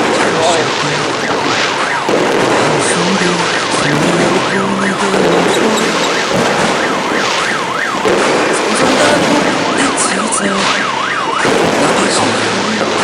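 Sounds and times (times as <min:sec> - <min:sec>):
fast warbling siren wail: 0:00.0 - 0:13.0
firecracker barrage crackling: 0:00.0 - 0:13.0.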